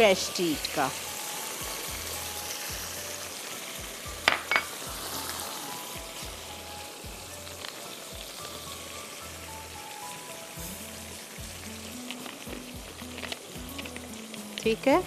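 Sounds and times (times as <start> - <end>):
sauce sizzling in a wok: 0.0 - 15.0.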